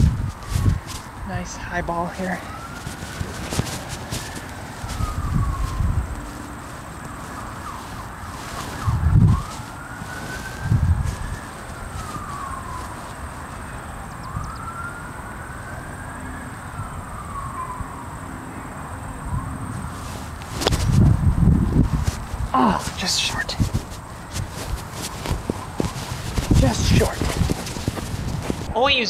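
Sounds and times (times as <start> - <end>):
emergency siren wailing: 0.0 - 28.7.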